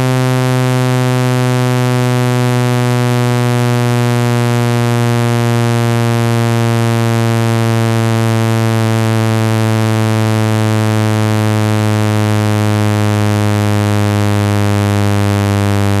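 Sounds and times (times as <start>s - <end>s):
low buzzing electronic tone: 0.0s - 16.0s.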